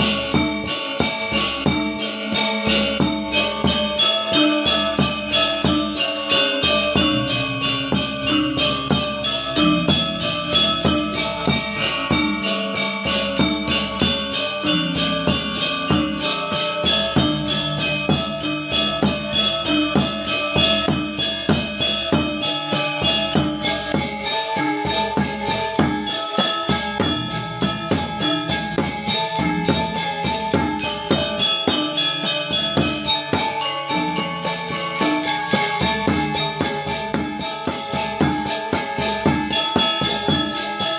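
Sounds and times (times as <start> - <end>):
gamelan ensemble playing: 0.0 - 40.9.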